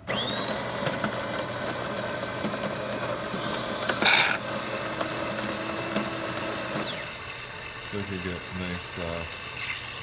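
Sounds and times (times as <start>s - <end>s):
espresso machine frothing milk: 0.1s - 10.0s.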